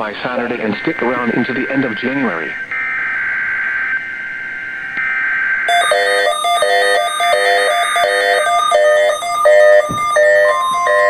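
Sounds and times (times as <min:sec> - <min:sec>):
screechy data burst: 0:00.3 - 0:11.0
electronic beeping tones: 0:01.2 - 0:11.0.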